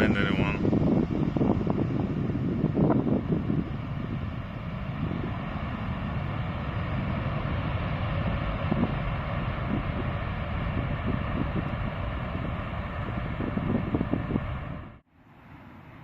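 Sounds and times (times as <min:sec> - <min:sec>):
jet engines roaring: 0:00.0 - 0:15.1.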